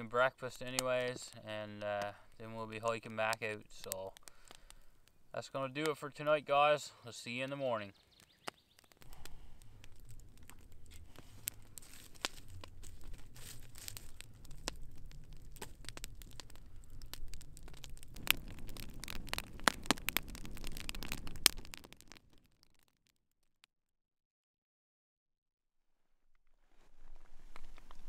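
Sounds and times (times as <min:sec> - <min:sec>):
low rumble of flame: 0:00.0 - 0:06.6, 0:08.1 - 0:22.9, 0:26.6 - 0:28.0
campfire crackling and popping: 0:00.0 - 0:23.2, 0:26.9 - 0:28.0.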